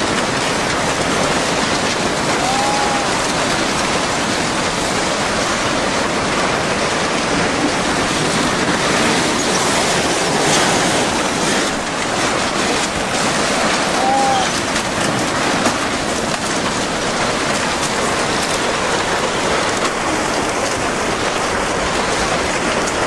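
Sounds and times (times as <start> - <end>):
floodwater roaring: 0.0 - 23.0.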